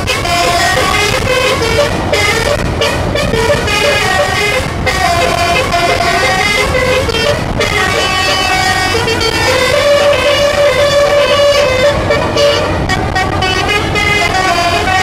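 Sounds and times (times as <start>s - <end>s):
constant low rumble: 0.0s - 15.0s
multi-tone air horn melody: 0.0s - 15.0s.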